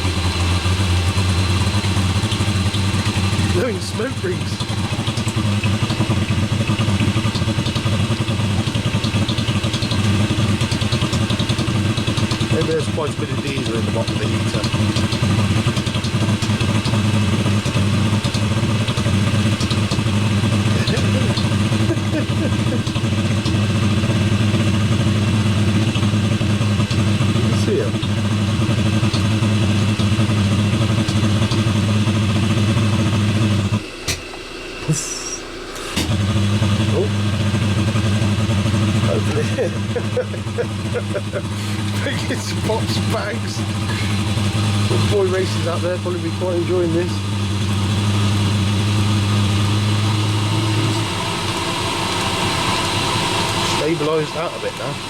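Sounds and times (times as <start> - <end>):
blower hum: 0.0 - 55.0
heater burner rough pulsing: 0.0 - 55.0.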